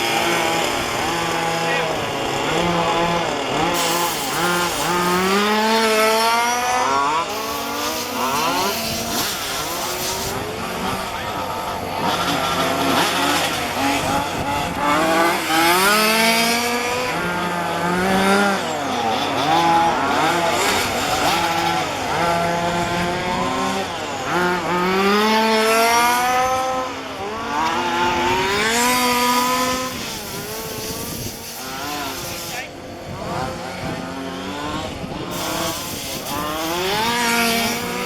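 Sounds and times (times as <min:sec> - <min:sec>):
small two-stroke engines revving: 0:00.0 - 0:38.0.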